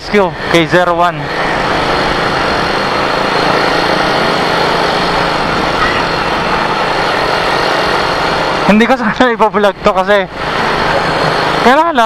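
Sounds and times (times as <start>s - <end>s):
low motorcycle engine hum: 0.0s - 12.0s.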